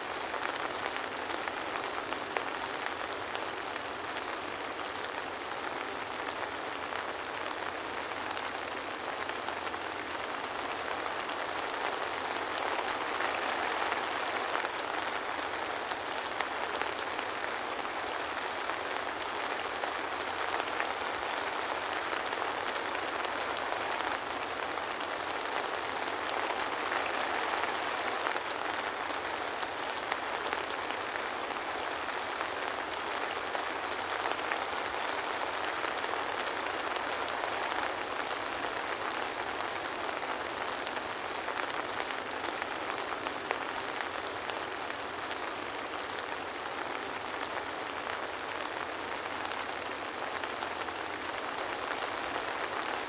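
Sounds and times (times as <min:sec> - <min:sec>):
soft rain falling: 0:00.0 - 0:53.0.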